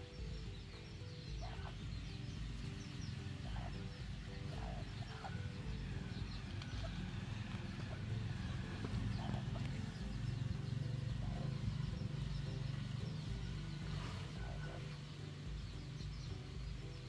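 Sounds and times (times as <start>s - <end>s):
small birds chirping faintly: 0.0s - 17.0s
steady low rumble: 0.0s - 17.0s.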